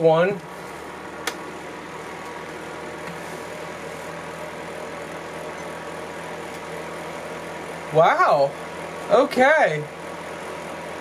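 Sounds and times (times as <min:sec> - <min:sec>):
fan heater whirring: 0:00.0 - 0:11.0.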